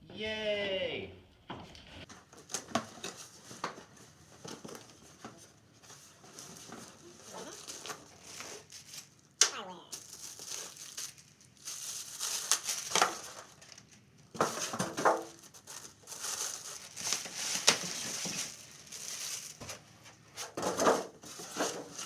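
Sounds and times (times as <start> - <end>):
cardboard and plastic rustling: 2.0 - 22.0.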